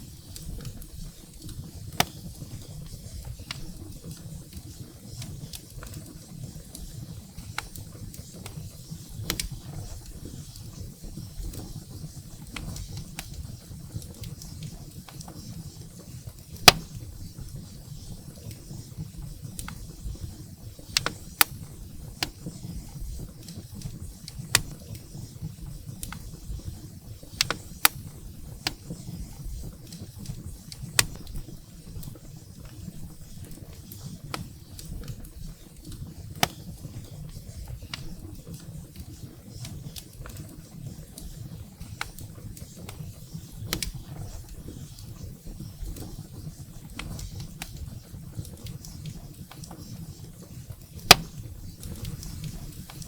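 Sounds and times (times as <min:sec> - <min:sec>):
firewood crackling and popping: 0:00.0 - 0:53.0
low rumble of flames: 0:00.0 - 0:53.0.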